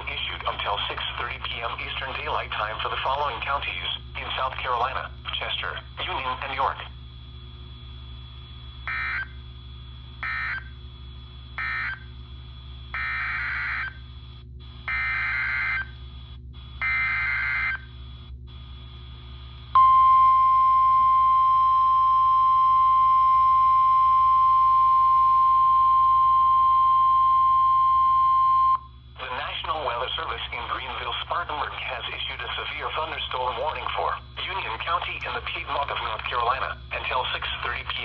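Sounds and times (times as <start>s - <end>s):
steady warning alarm tone: 0.0s - 38.0s.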